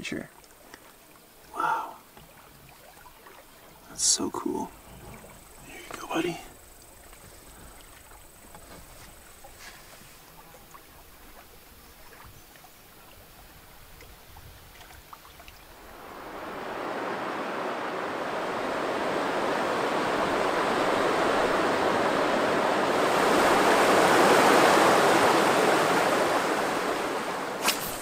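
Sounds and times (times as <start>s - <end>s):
whitewater of river rapids: 0.5s - 14.1s, 15.6s - 28.0s.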